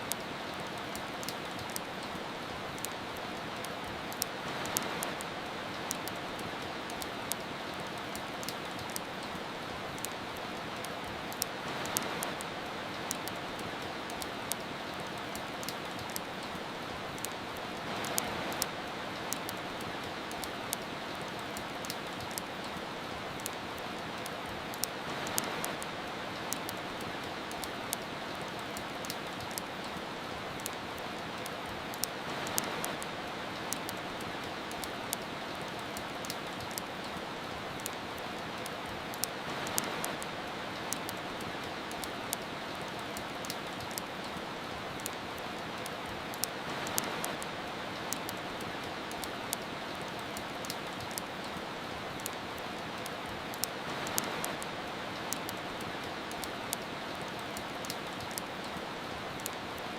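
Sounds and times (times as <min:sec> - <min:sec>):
rain hiss: 0:00.0 - 0:59.9
wood fire crackling: 0:00.0 - 0:59.9.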